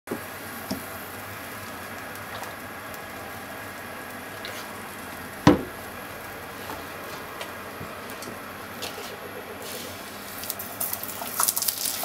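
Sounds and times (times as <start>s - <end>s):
gas burner hissing: 0.1s - 12.0s.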